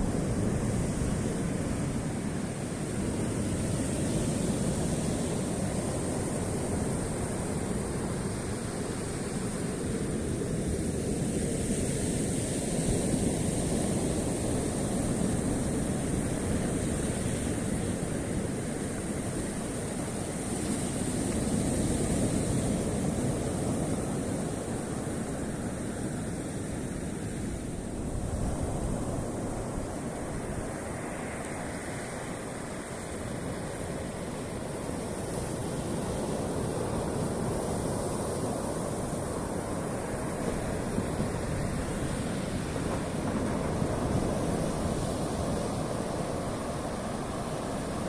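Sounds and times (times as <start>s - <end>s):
waves washing onto shore: 0.0s - 48.0s.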